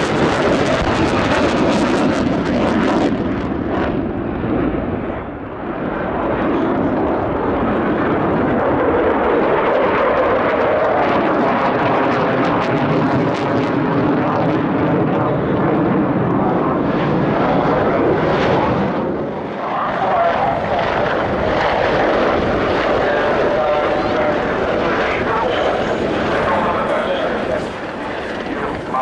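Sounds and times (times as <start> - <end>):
fighter jet engine: 0.0 - 29.0
turboprop engines droning: 0.0 - 29.0.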